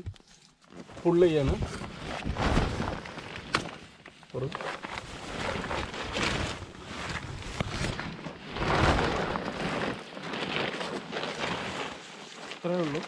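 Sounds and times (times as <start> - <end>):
nylon tent fabric rustling: 0.0 - 13.0.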